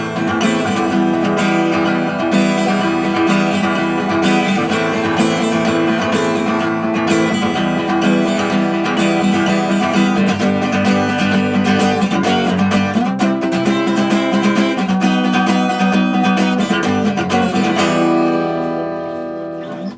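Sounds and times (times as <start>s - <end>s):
guitar chords strummed: 0.0s - 19.9s.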